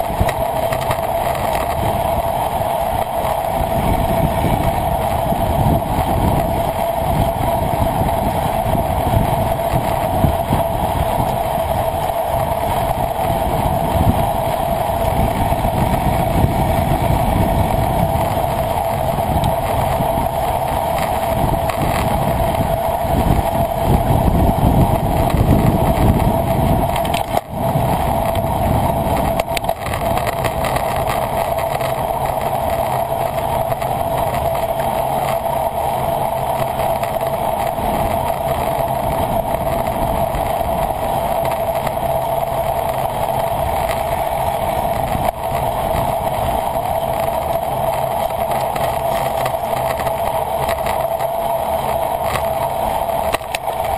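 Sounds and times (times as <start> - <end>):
constant hum: 0.0 - 53.9
wind and road noise: 0.0 - 53.9.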